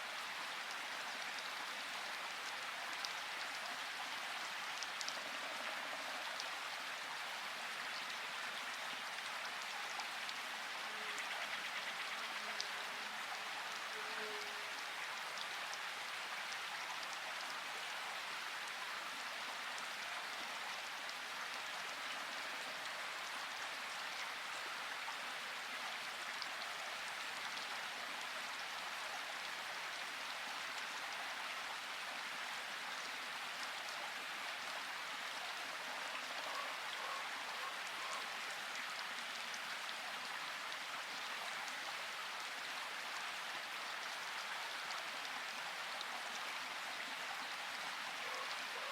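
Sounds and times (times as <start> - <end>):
steady rainfall: 0.0 - 48.9.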